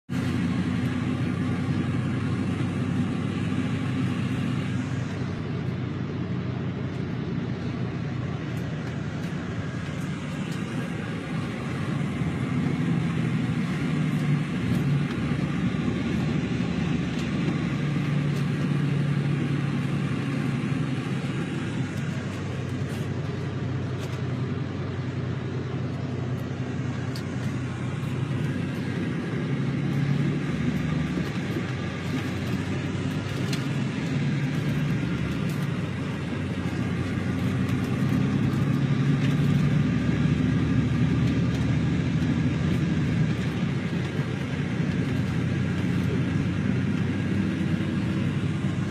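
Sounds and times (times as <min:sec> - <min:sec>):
bus engine drone: 0:00.0 - 0:48.9
road noise: 0:00.0 - 0:48.9
low hum: 0:00.1 - 0:48.9.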